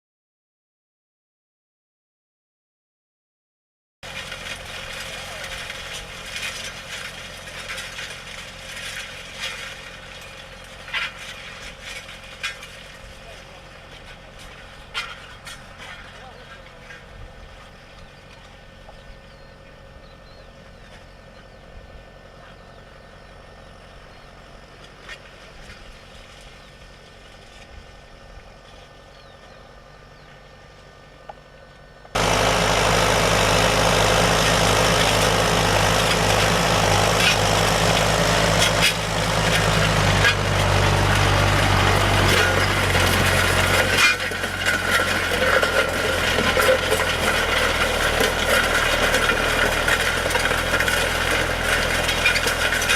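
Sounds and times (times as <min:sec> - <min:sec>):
tractor engine running: 0:04.0 - 0:52.9.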